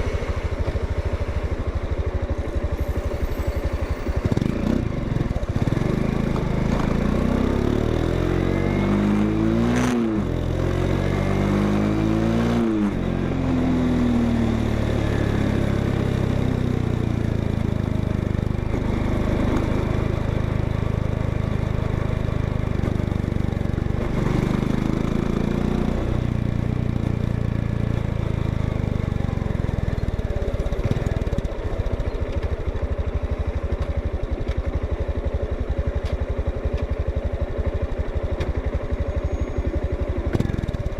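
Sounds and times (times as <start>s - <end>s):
motorcycle engine revving and idling: 0.0s - 40.9s.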